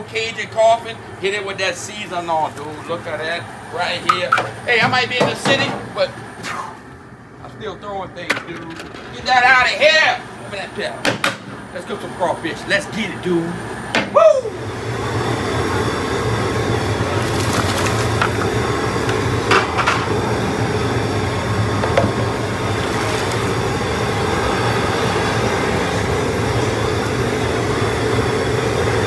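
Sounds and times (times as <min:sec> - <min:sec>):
propane burner rushing: 0:00.0 - 0:29.0
water churning at a boil: 0:00.0 - 0:29.0.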